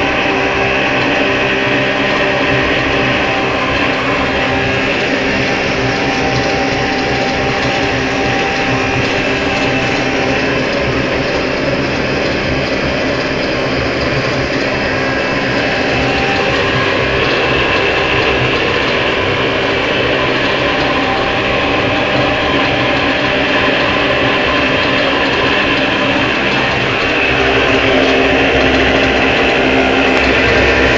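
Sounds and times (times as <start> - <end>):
oil heater burning with rattle: 0.0 - 30.9.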